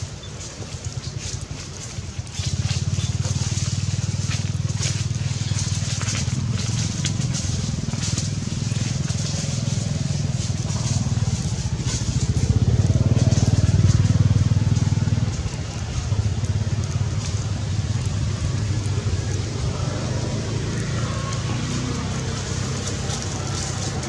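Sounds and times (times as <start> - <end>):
dry leaves crackling: 0.0 - 24.0
low rumble: 2.6 - 24.0.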